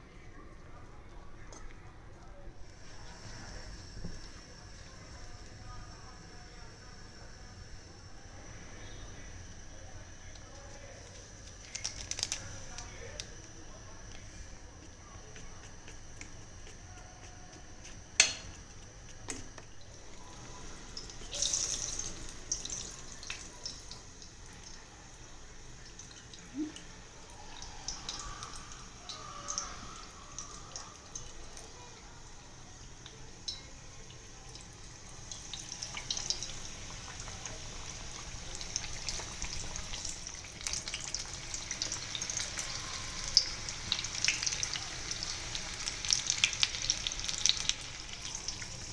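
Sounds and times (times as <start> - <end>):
hot oil sizzling and crackling: 2.6 - 48.9.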